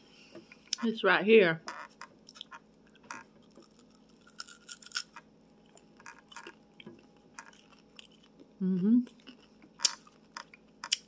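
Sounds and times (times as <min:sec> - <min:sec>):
small crackles: 0:01.6 - 0:11.0
person chewing: 0:01.9 - 0:11.0.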